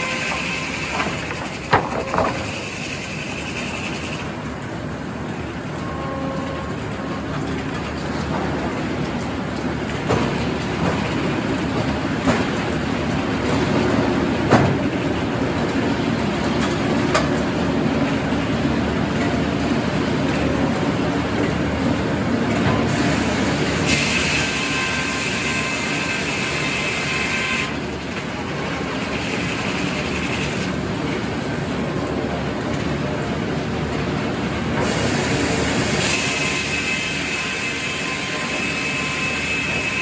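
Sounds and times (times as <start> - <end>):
sawmill rumble: 0.0 - 40.0.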